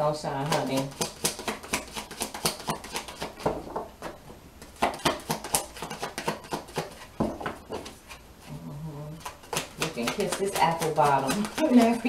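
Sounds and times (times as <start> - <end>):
cards being shuffled: 0.4 - 3.5, 4.6 - 8.5, 9.2 - 12.0.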